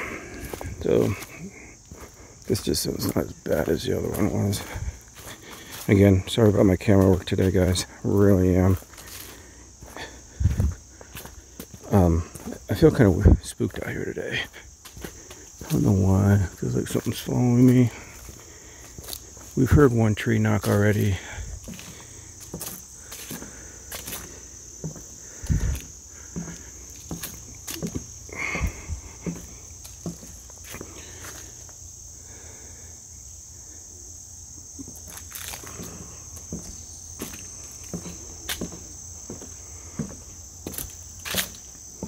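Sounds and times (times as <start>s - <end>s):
footsteps on woodland trail: 0.0s - 42.0s
insects trilling: 0.0s - 42.0s.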